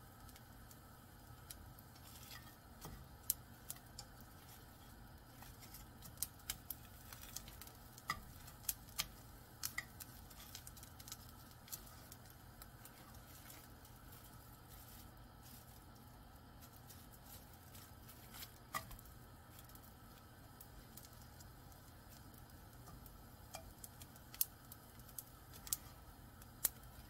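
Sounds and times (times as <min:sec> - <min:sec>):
low steady hum: 0:00.0 - 0:27.0
seaweed sheets crackling in pan: 0:00.0 - 0:27.0.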